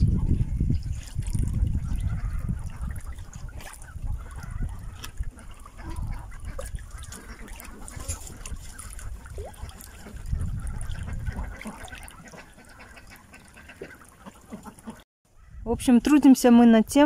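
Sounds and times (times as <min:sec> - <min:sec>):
duck splashing in water: 0:01.0 - 0:15.0.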